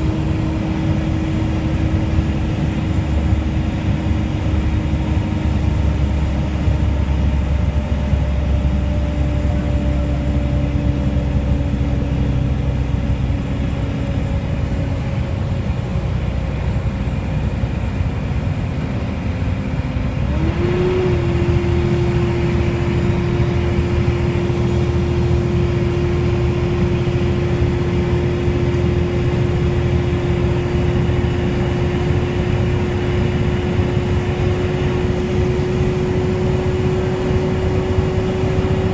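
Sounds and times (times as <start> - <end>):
bus engine running: 0.0 - 38.9
cooling fan whine: 0.0 - 38.9.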